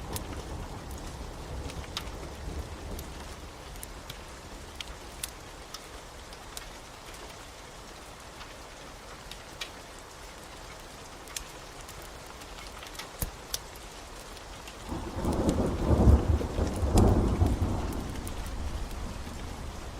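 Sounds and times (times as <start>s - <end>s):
steady rain: 0.0s - 19.9s
wood fire crackling: 0.0s - 19.9s.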